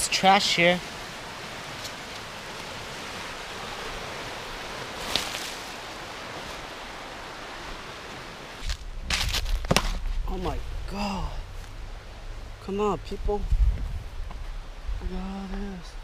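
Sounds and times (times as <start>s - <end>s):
river flowing over riffles: 0.0s - 16.0s.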